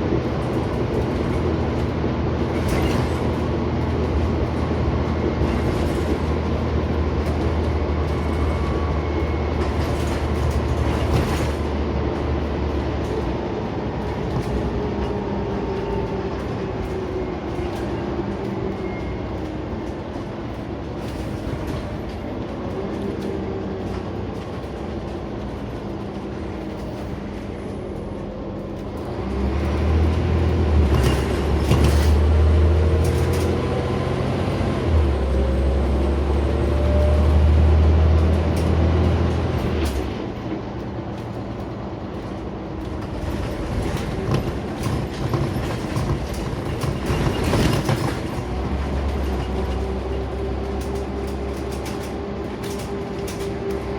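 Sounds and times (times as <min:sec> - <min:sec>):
bus engine drone: 0:00.0 - 0:53.9
road rumble: 0:00.0 - 0:53.9.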